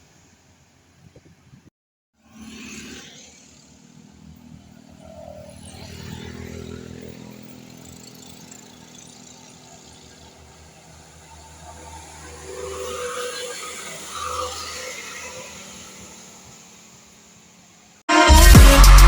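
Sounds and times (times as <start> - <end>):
bus diesel engine passing: 2.2 - 18.1.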